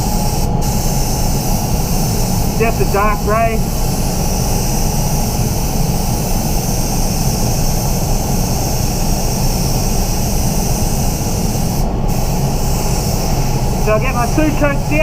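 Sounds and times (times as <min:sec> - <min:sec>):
spray booth fans roaring: 0:00.0 - 0:15.0.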